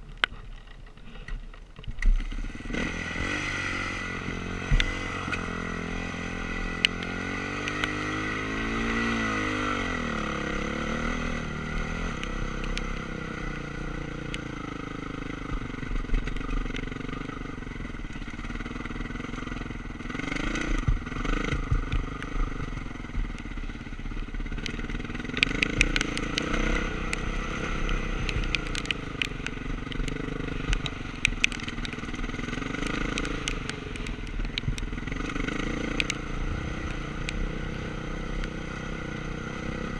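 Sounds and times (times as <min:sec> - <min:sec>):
motorcycle engine revving: 0:02.1 - 0:39.9.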